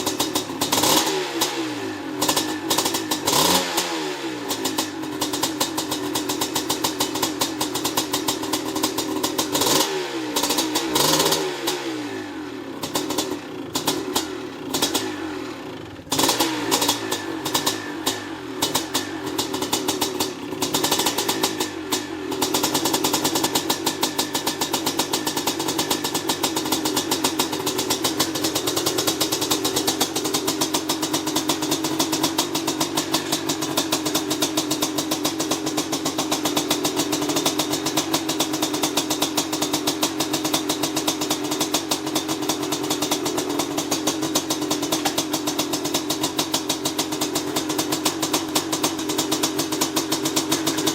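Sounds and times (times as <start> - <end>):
two-stroke motorcycle engine idling: 0.0 - 50.9.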